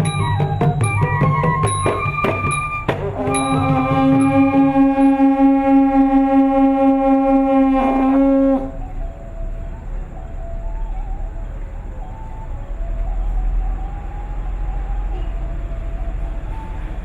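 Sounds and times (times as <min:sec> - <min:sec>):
flute holding low note: 0:00.0 - 0:17.0
soft faint flute notes: 0:00.0 - 0:17.0.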